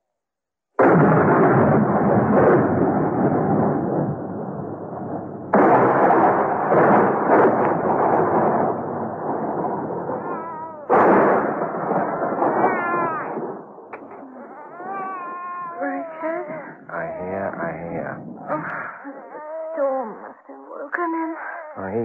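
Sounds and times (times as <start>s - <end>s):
thunderclaps rolling into rumble: 0.8s - 18.5s.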